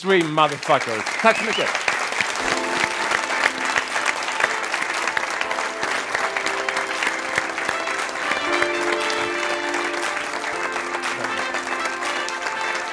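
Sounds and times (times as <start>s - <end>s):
studio audience applauding: 0.0s - 12.9s
music with held notes: 2.4s - 12.9s.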